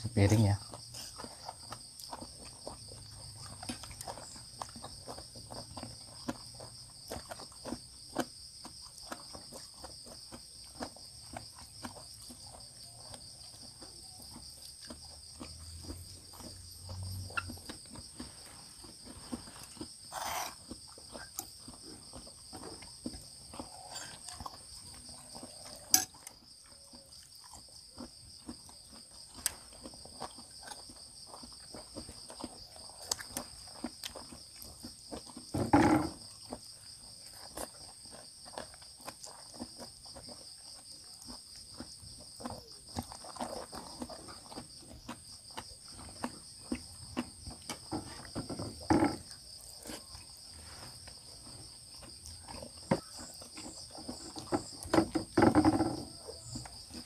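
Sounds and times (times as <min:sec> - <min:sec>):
night insects trilling: 0:00.0 - 0:57.0.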